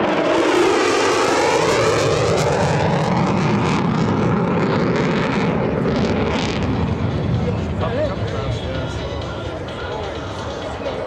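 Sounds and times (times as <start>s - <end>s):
fighter jet roar passing: 0.0s - 11.0s.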